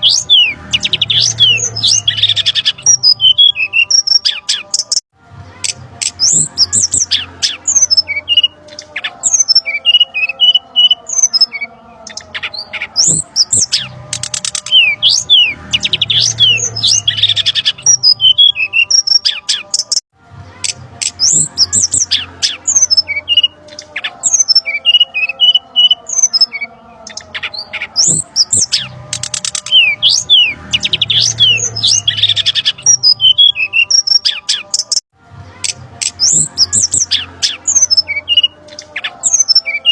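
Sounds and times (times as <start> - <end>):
recorded bird chirps and whistles: 0.0 - 5.0, 5.6 - 20.0, 20.6 - 35.0, 36.0 - 39.9.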